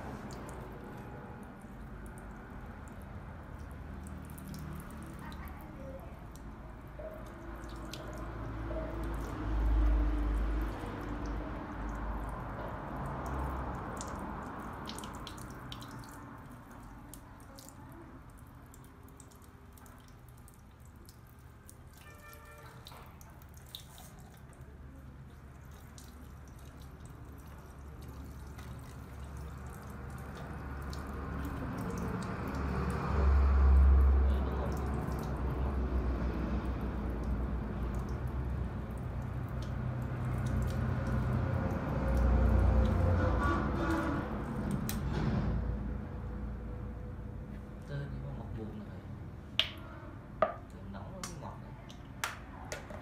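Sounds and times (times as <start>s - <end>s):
water dripping and splashing: 0.0s - 45.6s, 49.5s - 53.0s.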